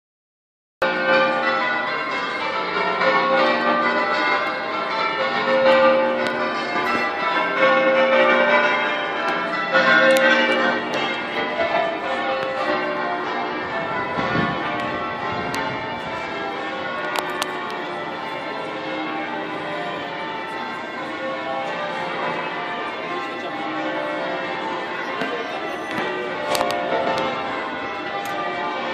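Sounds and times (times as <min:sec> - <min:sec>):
church bells ringing: 0:00.8 - 0:28.9.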